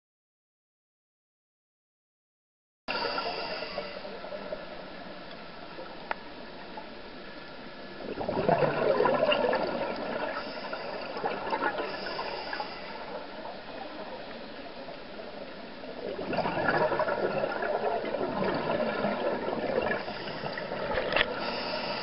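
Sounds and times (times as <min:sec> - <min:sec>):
regulator bubbles underwater: 0:02.9 - 0:22.0.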